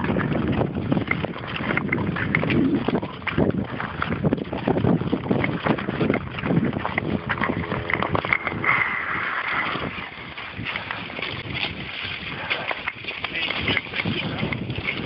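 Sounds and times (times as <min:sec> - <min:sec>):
wind on microphone: 0:00.0 - 0:15.0
skates scraping over ice: 0:01.0 - 0:15.0.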